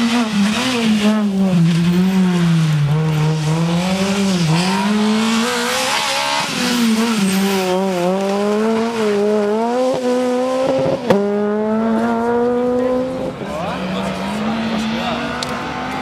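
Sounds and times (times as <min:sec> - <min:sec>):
rally car engine revving: 0:00.0 - 0:16.0
tyre and road noise: 0:00.0 - 0:16.0.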